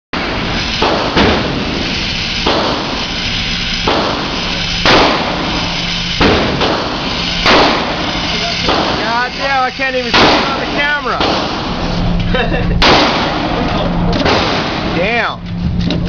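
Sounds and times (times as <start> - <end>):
gunshots: 0.2 - 9.1, 10.0 - 11.8, 12.8 - 15.2
steady background hiss: 0.2 - 15.5.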